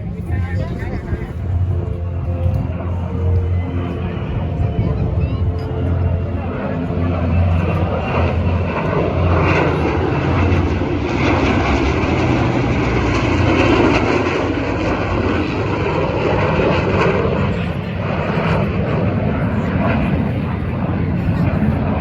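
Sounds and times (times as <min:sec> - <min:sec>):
airplane engine droning: 0:00.0 - 0:22.0.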